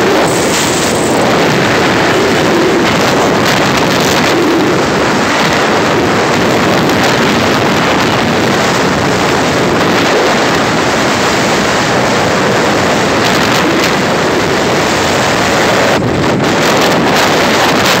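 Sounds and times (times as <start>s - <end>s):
motorcycle engine: 0.0s - 16.6s
wind rushing over microphone: 0.0s - 18.0s.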